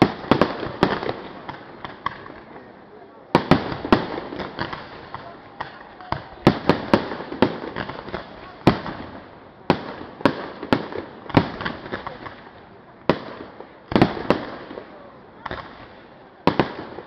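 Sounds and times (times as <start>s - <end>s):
fireworks bursting with sharp bangs: 0.0s - 17.0s
fireworks crackling: 0.0s - 17.0s.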